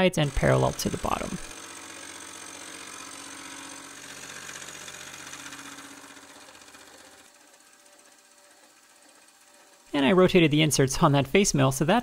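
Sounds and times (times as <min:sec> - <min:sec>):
milling machine humming: 0:00.0 - 0:10.2.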